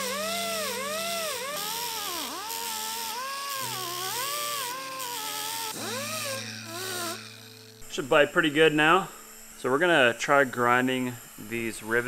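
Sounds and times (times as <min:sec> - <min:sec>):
die grinder whining on metal: 0:00.0 - 0:12.0.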